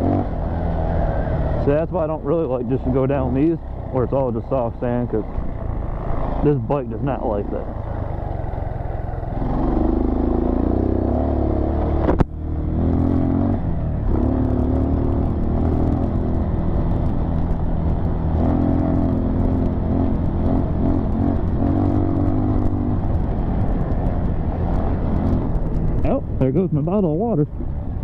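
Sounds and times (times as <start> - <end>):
dirt bike engine revving: 0.0 - 23.1.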